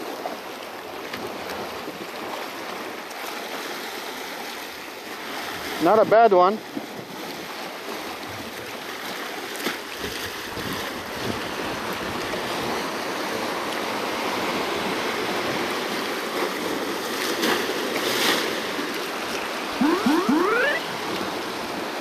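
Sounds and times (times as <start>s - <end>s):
small waves splashing over rocks: 0.0s - 19.7s.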